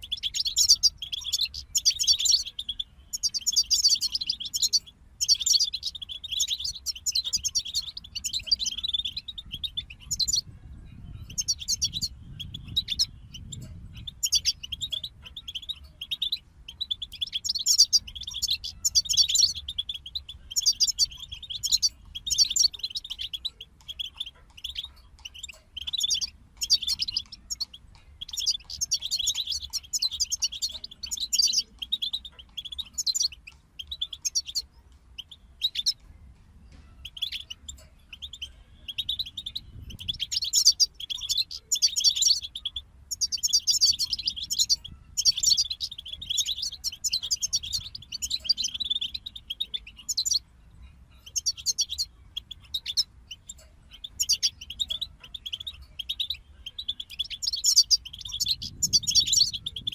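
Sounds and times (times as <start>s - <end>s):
goldfinches twittering: 0.0s - 36.0s, 36.9s - 59.9s.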